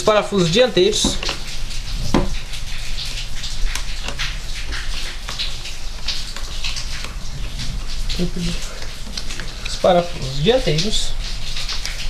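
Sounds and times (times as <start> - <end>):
steady hiss with low hum: 0.0 - 12.0.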